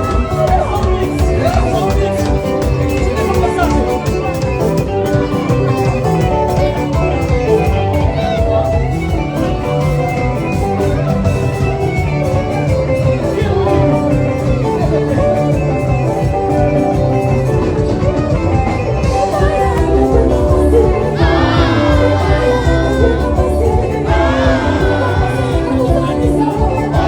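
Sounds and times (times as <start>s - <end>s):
live band playing dance music: 0.0s - 27.0s.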